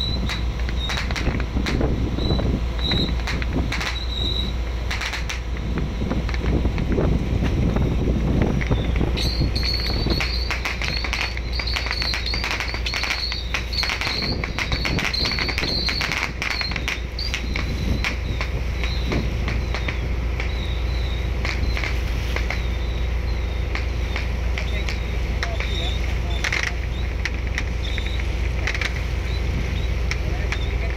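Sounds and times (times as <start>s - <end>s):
high warbling chirp: 0.0s - 1.2s, 2.0s - 4.7s, 8.6s - 30.9s
boat engine rumble: 0.0s - 30.9s
sharp crackles: 0.0s - 30.9s
wind on microphone: 0.0s - 30.9s.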